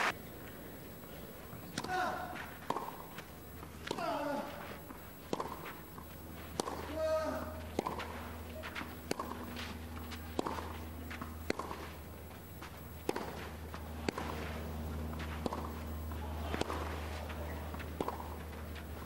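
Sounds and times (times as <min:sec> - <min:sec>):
shoes scuffing on clay: 0:00.0 - 0:19.0
tennis racquets hitting ball: 0:01.5 - 0:19.0.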